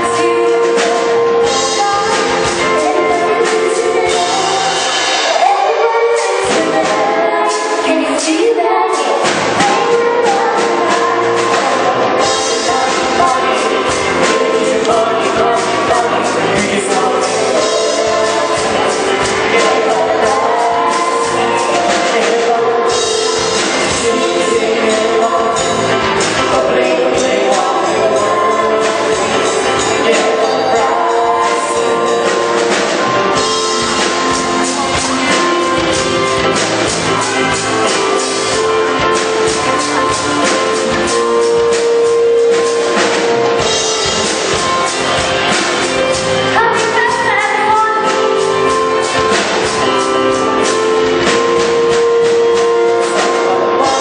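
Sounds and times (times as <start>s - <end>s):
drums and band: 0.0s - 54.0s
vocal group singing pop: 0.0s - 54.0s.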